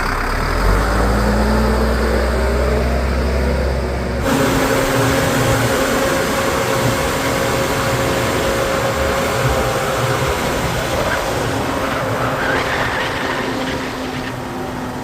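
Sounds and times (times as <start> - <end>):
diesel engine running: 0.0 - 15.0
steady whine: 2.0 - 15.0.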